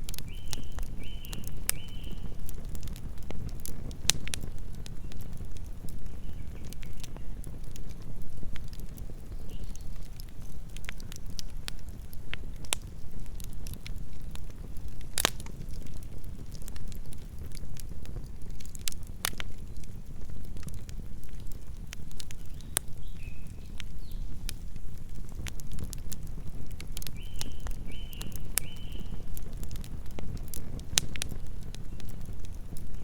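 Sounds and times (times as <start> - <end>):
flames rumbling: 0.0 - 33.0
wood crackling and popping: 0.0 - 33.0.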